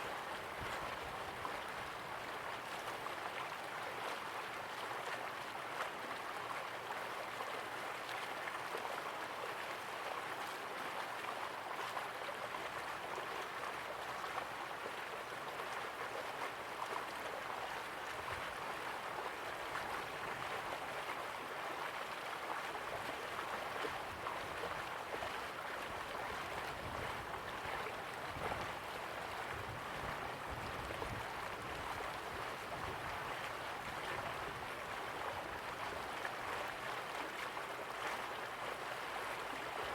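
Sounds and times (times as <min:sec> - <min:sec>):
river water rushing and gurgling: 0:00.0 - 0:39.9.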